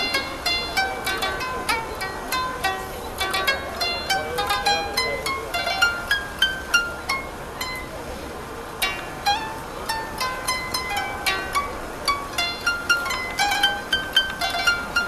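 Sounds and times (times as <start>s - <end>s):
koto plucked melody: 0.0s - 15.0s.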